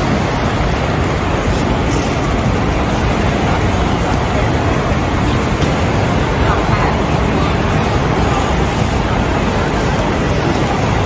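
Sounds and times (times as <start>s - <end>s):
distant crowd: 0.0s - 11.0s
ventilation noise: 0.0s - 11.0s.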